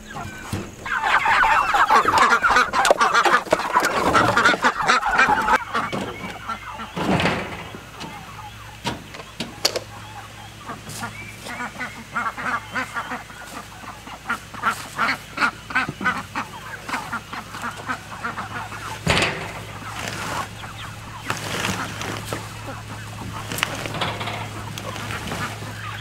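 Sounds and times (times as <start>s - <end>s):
chickens squawking: 0.0s - 26.0s.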